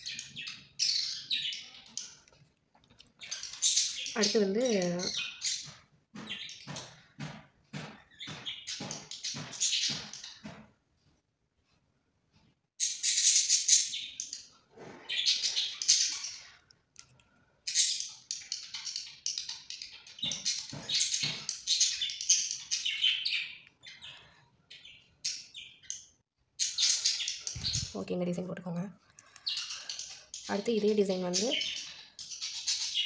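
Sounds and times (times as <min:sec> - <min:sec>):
small birds chirping: 0:00.0 - 0:10.8, 0:12.8 - 0:33.0.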